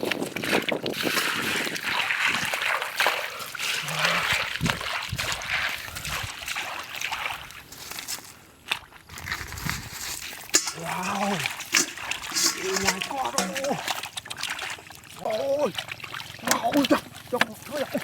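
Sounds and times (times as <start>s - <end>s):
shallow water splashing: 0.0s - 8.3s, 9.1s - 18.0s.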